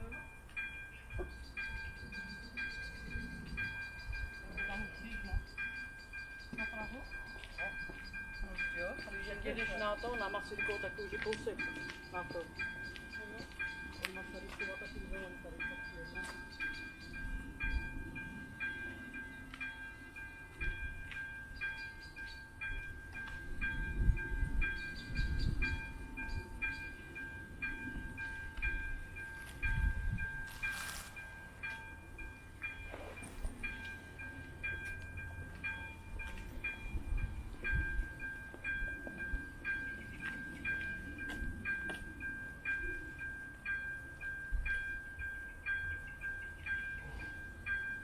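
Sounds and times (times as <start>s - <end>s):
level-crossing warning bell ringing: 0.0s - 48.0s.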